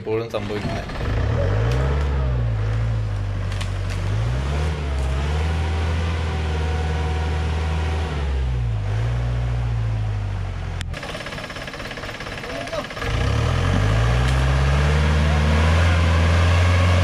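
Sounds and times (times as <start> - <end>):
jeep engine revving: 0.4 - 17.0.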